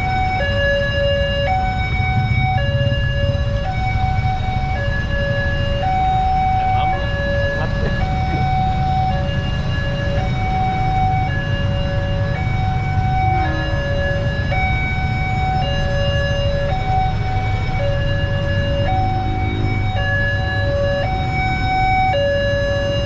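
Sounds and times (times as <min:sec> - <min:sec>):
idling vehicles rumble: 0:00.0 - 0:23.0
two-tone level crossing alarm: 0:00.0 - 0:23.0.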